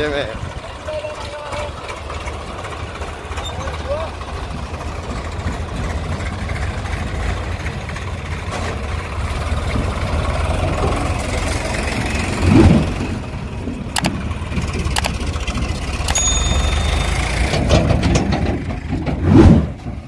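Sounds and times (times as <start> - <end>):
tractor diesel engines rumbling: 0.0 - 20.0.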